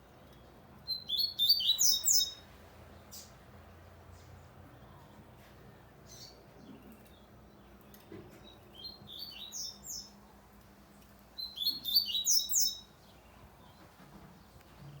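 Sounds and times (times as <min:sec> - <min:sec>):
bird chirping song: 0:00.0 - 0:03.4, 0:04.8 - 0:10.4, 0:11.4 - 0:15.0.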